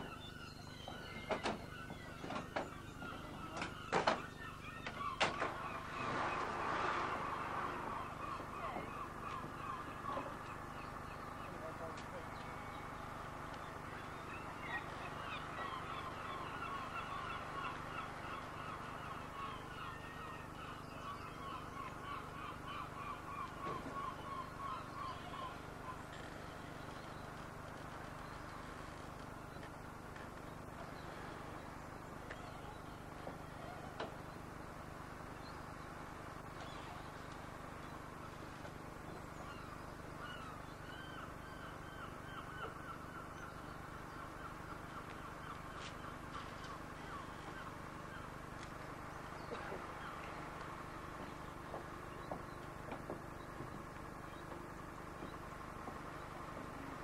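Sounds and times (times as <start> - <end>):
flock of birds chattering: 0.0 - 57.0.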